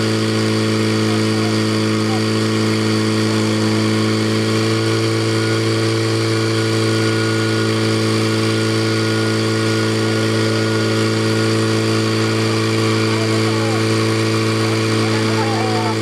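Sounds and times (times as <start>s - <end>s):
pump engine running: 0.0s - 16.0s.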